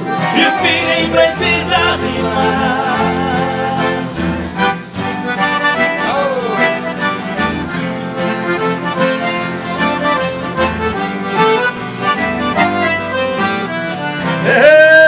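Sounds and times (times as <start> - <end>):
accordion: 0.0 - 15.0
guitars: 0.0 - 15.0.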